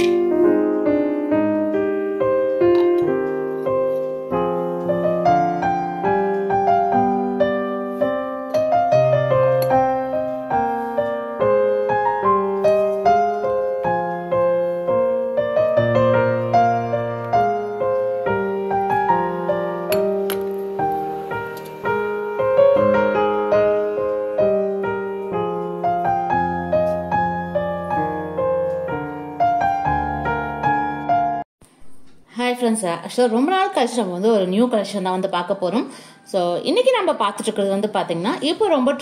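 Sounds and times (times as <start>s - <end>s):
piano music: 0.0s - 32.2s.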